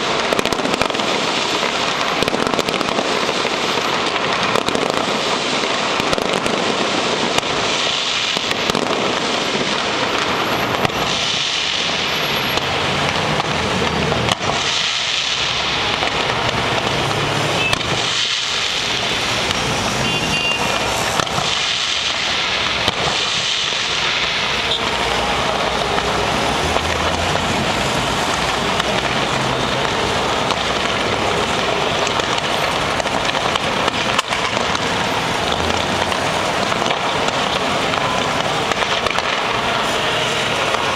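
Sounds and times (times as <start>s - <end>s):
deep firework rumbles: 0.0s - 40.9s
firecrackers crackling: 0.0s - 40.9s.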